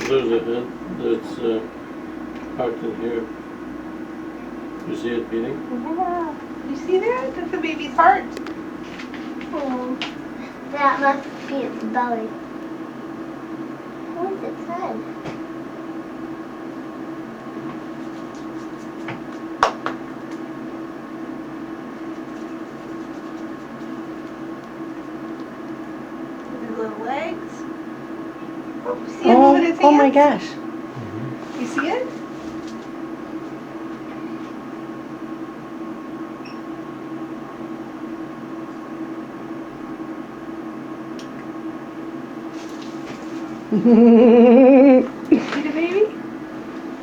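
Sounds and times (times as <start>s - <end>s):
ultrasound equipment hum: 0.0s - 47.0s.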